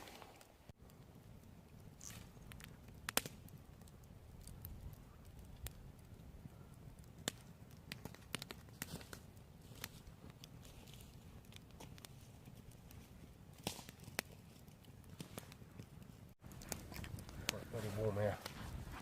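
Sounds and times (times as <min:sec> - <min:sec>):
campfire crackling: 0:00.0 - 0:19.0
sharp pops from burning wood: 0:00.1 - 0:17.8.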